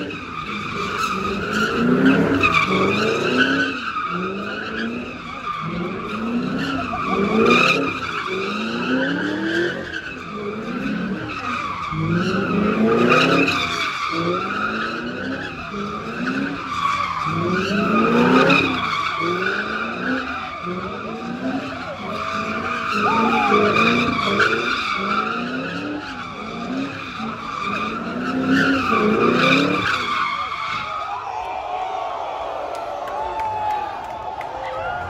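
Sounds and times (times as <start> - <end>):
car engine revving: 0.0 - 30.7
tires screeching: 0.0 - 35.0.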